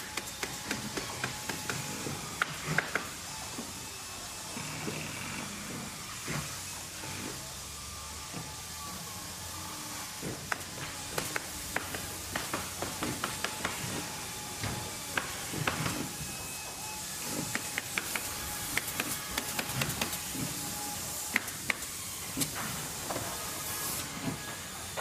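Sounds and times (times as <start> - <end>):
steady machinery hiss: 0.0 - 25.0.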